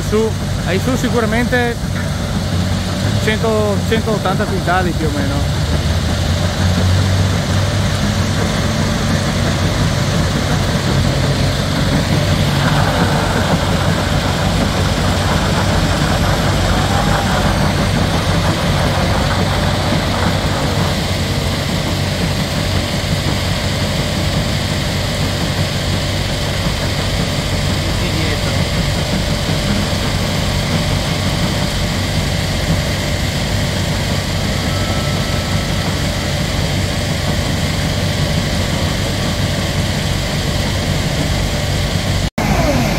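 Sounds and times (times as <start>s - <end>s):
diesel engine running at low revs: 0.0s - 42.9s.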